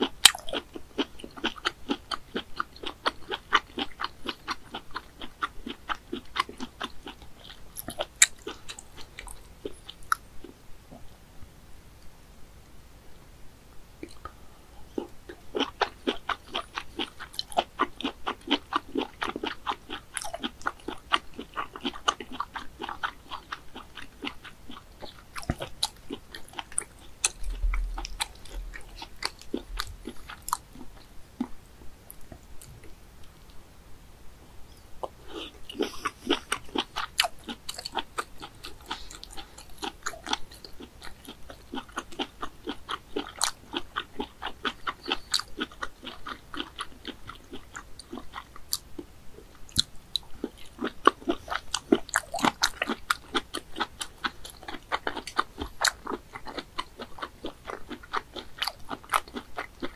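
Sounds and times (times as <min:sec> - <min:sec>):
close chewing and biting: 0:00.0 - 0:10.6, 0:14.0 - 0:33.4, 0:35.0 - 0:59.9.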